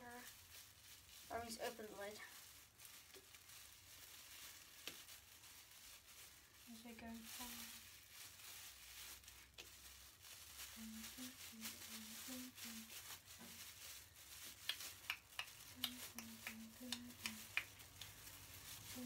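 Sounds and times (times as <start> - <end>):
plastic bag and bottle crinkling: 0.0 - 19.0.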